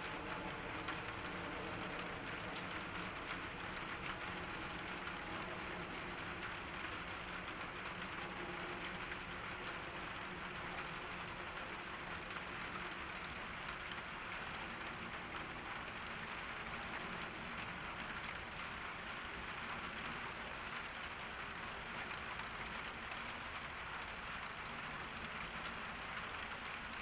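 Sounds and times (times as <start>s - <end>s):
rain hissing on garden: 0.0s - 27.0s.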